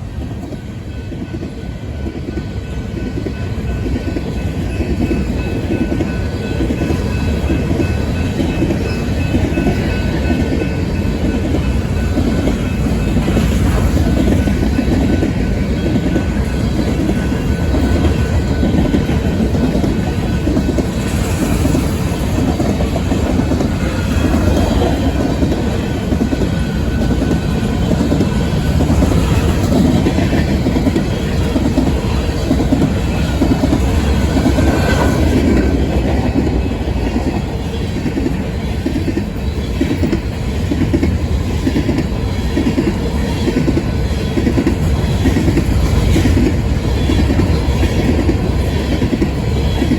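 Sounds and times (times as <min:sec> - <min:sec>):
freight train wheels clacking: 0:00.0 - 0:49.9.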